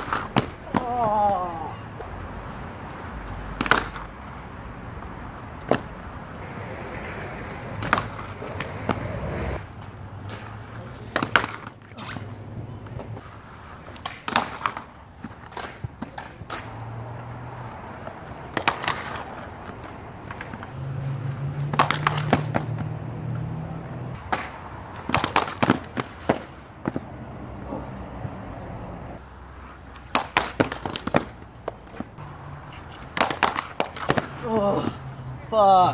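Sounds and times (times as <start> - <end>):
skates clacking on concrete ledge: 0.0 - 27.9, 29.2 - 35.9
inline skates rolling on concrete: 0.0 - 35.9.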